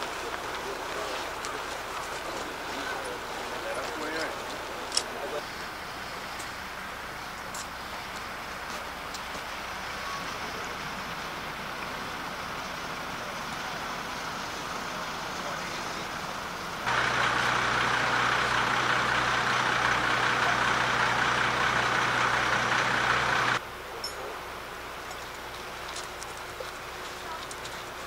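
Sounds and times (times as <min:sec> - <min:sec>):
rushing river water: 0:00.0 - 0:23.8
low engine hum: 0:00.0 - 0:28.0
outdoor noise: 0:00.0 - 0:28.0.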